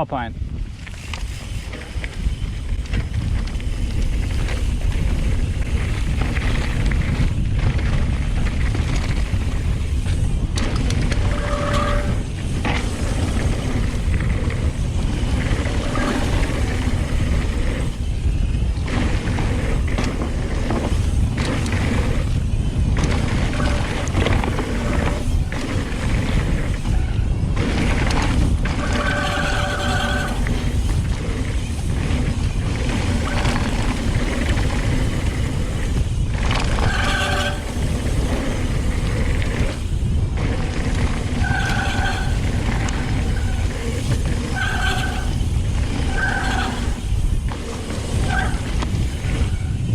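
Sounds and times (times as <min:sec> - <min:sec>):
wind rush: 0:00.0 - 0:49.9.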